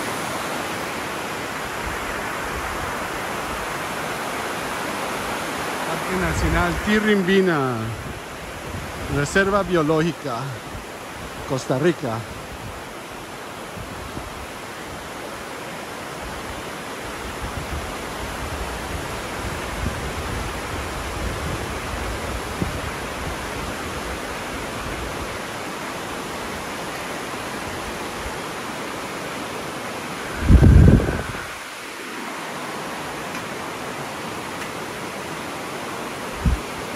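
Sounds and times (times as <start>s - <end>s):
river rapids rushing: 0.0s - 36.9s.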